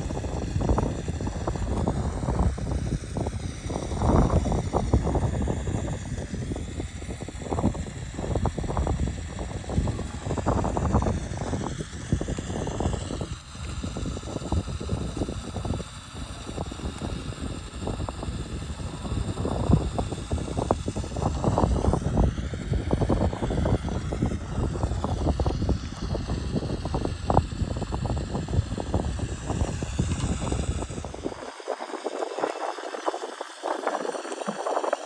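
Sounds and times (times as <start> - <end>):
electric motors whining: 0.0 - 35.0.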